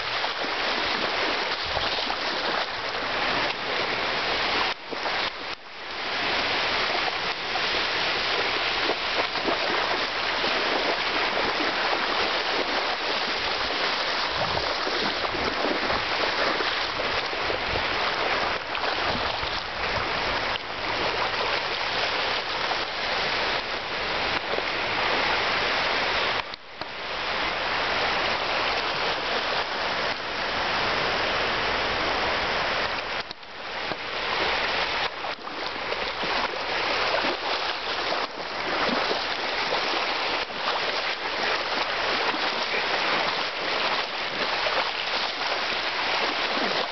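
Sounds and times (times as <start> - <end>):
dog splashing through water: 0.0 - 24.6, 33.9 - 46.9
small surf waves rushing: 0.0 - 46.9.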